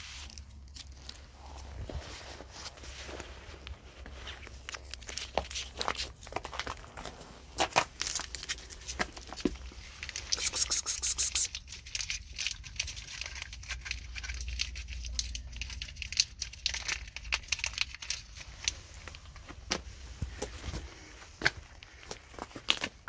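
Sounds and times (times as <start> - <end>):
crinkling and crackling: 0.0 - 23.0.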